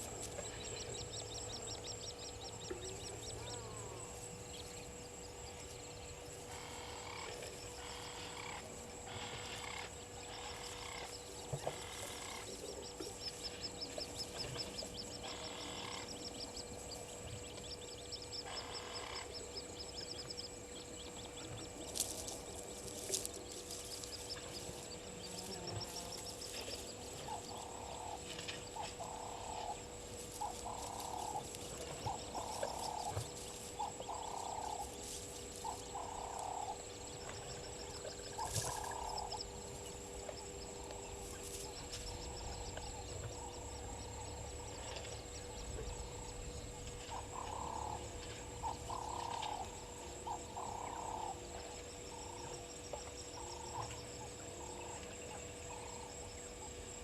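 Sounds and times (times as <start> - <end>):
high steady whine: 0.0 - 49.9
bird calls: 0.0 - 56.1
faint steady hum: 0.0 - 57.0
frogs croaking: 0.0 - 57.0.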